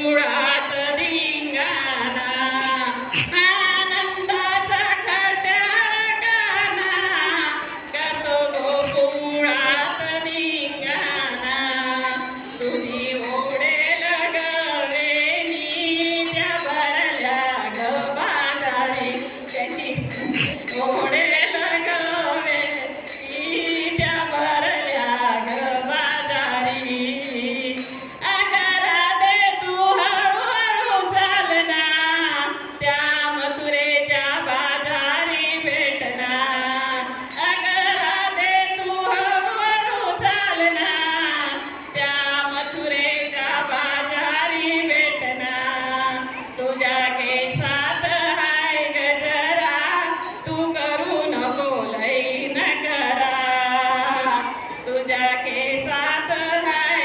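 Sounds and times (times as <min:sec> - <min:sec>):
steady jingling rhythm: 0:00.0 - 0:31.4, 0:36.6 - 0:57.0
elderly woman singing folk song: 0:00.0 - 0:57.0.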